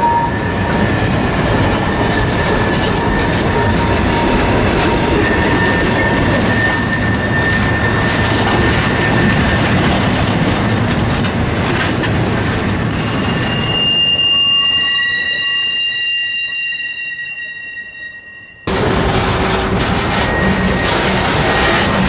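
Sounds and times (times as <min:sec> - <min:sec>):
high-pitched wheel squeal: 0:00.0 - 0:10.4, 0:12.9 - 0:22.0
train wheels rumbling on rails: 0:00.0 - 0:16.6, 0:18.6 - 0:22.0.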